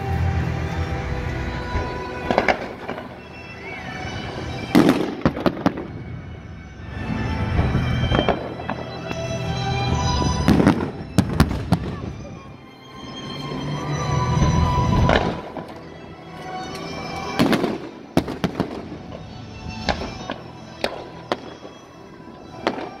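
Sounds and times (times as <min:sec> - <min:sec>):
music: 0:00.0 - 0:23.0
fireworks banging: 0:00.1 - 0:23.0.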